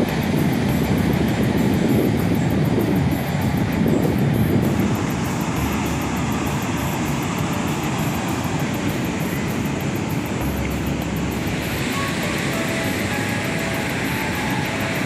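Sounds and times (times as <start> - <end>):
sea surf: 0.0 - 15.0
wind buffeting microphone: 0.0 - 15.0.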